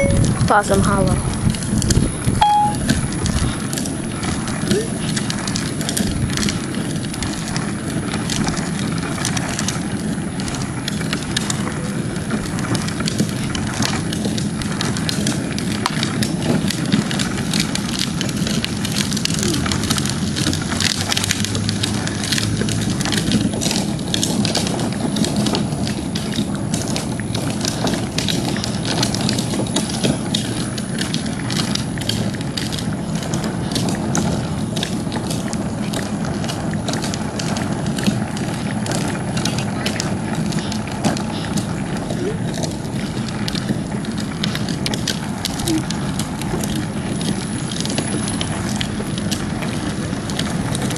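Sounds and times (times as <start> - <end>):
footsteps: 0.0 - 50.9
low rumble: 0.0 - 50.9.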